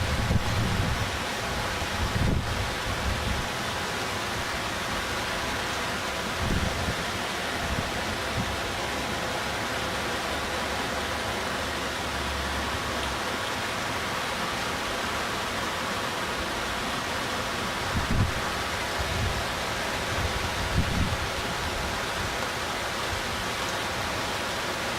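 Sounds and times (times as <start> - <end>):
rushing water and rain roar: 0.0 - 24.9.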